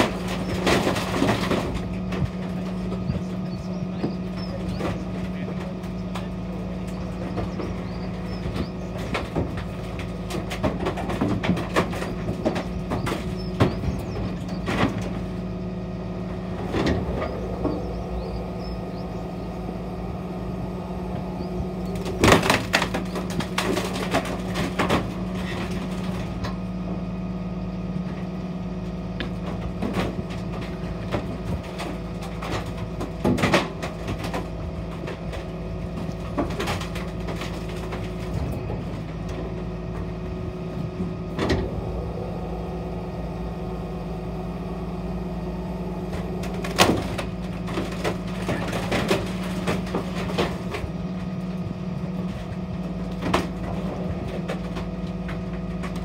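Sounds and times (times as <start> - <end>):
compactor packing a load: 0.0 - 56.0
refuse truck running: 0.0 - 56.0.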